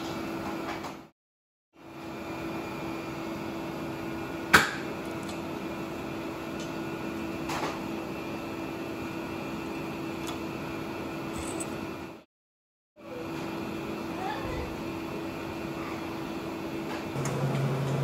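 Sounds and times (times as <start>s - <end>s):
steady background hum: 1.8s - 12.3s, 13.0s - 18.0s.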